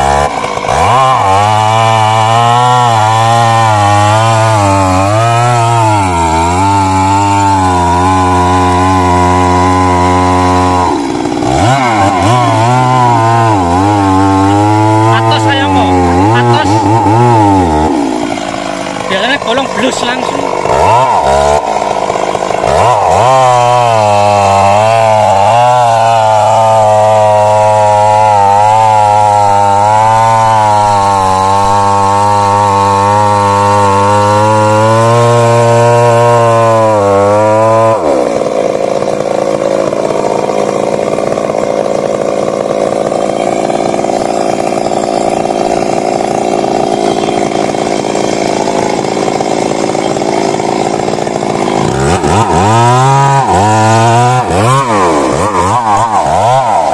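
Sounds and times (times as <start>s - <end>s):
chainsaw cutting: 0.0s - 56.9s.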